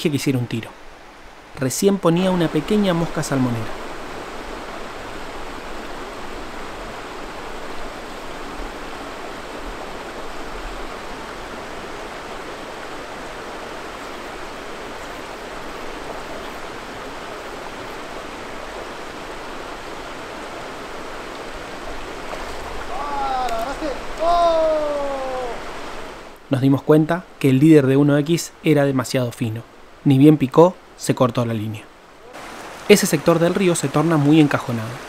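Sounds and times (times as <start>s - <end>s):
river water rushing: 0.7s - 26.5s, 31.9s - 35.0s.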